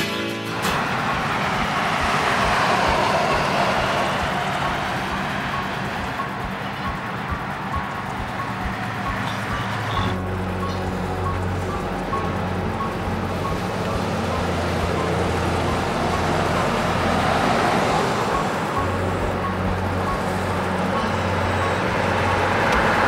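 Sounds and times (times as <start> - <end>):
cars passing close by: 0.0 - 23.0.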